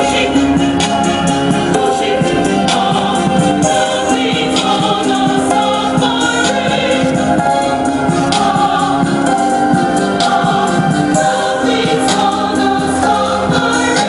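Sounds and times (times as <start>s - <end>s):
music with singing from car speakers: 0.0s - 14.0s.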